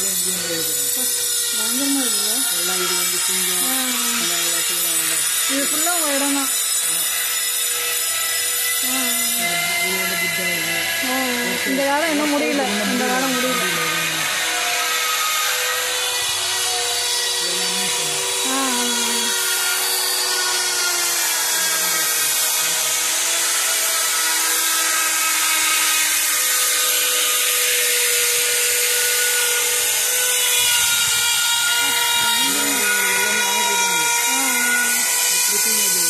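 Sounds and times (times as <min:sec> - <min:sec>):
power tool grinding stone: 0:00.0 - 0:36.0.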